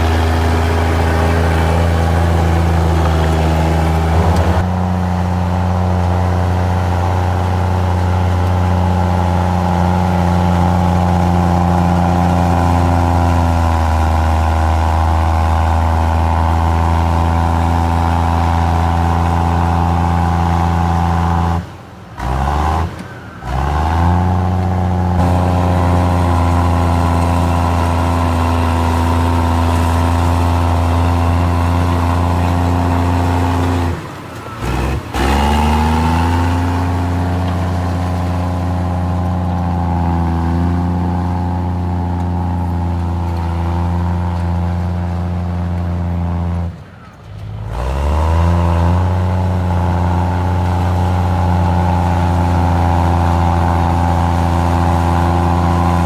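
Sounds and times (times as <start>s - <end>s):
bulldozer diesel engine running: 0.0s - 56.0s
bulldozer pushing rock and soil: 0.0s - 56.0s.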